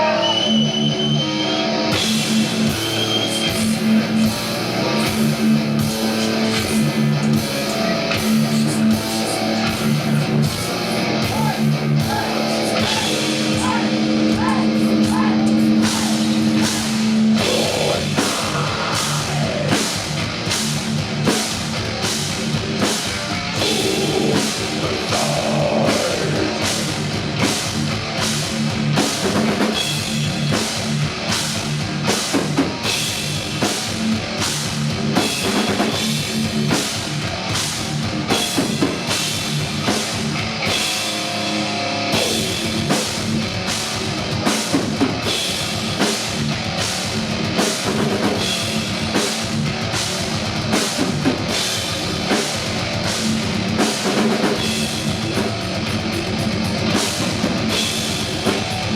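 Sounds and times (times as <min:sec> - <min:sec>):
heavy metal band playing live: 0:00.0 - 0:58.9.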